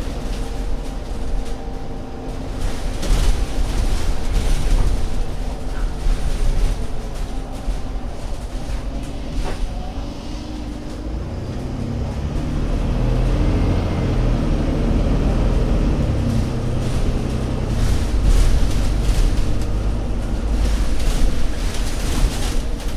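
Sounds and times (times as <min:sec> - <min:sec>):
bus diesel engine accelerating: 0:00.0 - 0:22.9.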